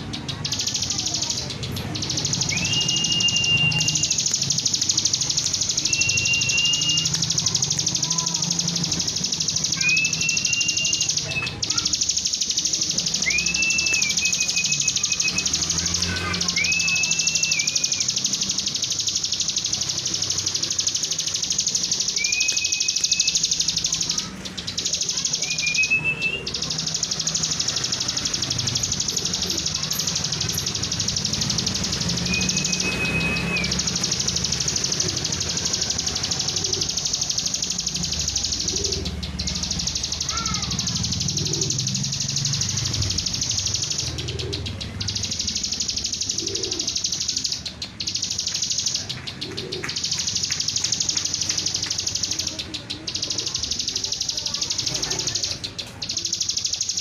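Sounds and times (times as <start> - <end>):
bird calling: 0.0 - 57.0.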